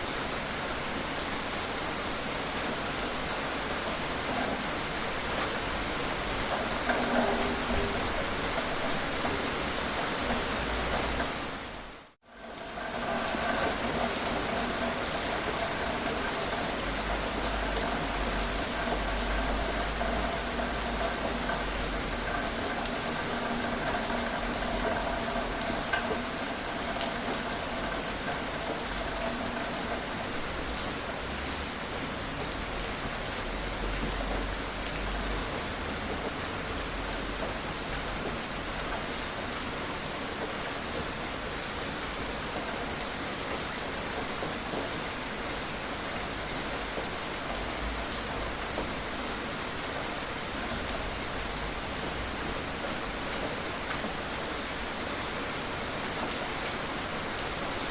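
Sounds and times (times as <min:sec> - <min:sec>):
gentle rain falling: 0:00.0 - 0:57.9
raindrop ticks: 0:03.8 - 0:11.7, 0:12.3 - 0:57.9.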